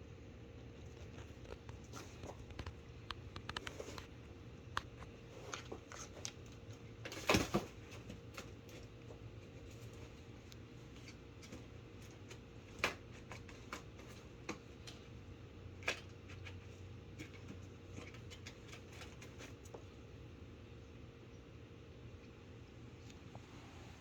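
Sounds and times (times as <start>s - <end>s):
steady low hum: 0.0s - 24.0s
cat moving and playing: 0.8s - 20.3s.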